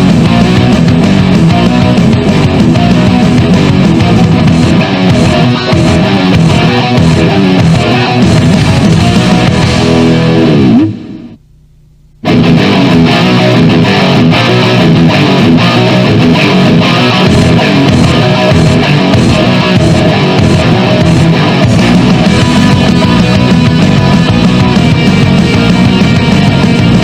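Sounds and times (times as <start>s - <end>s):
heavy rock music: 0.0s - 11.4s, 12.2s - 27.0s.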